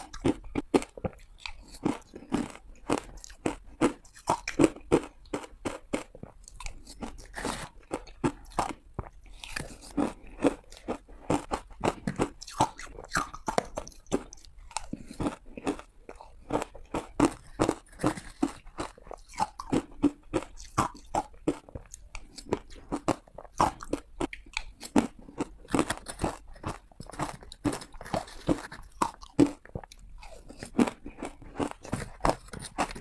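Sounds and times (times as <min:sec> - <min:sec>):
crunching ice chewing: 0:00.0 - 0:33.0.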